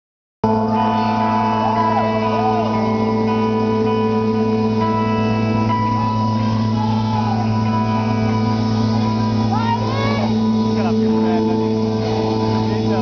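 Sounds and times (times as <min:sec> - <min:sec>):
live rock music with droning guitars: 0:00.4 - 0:13.0.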